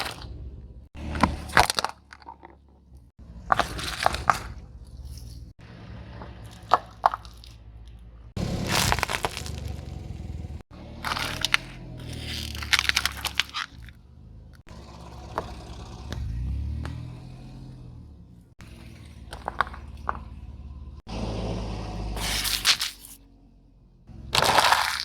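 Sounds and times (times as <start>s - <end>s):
tyre crushing crunchy objects: 0.0s - 17.9s, 18.6s - 21.2s, 22.1s - 23.2s, 24.0s - 25.0s
low engine hum: 2.6s - 24.8s.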